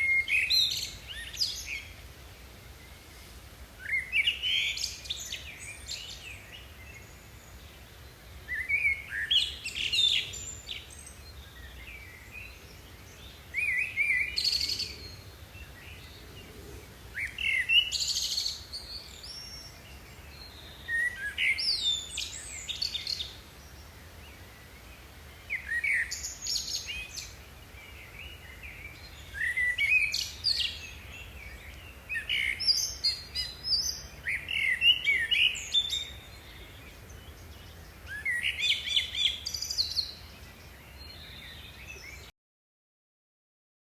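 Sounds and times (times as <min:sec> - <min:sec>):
songbird chirping: 0:00.0 - 0:42.3.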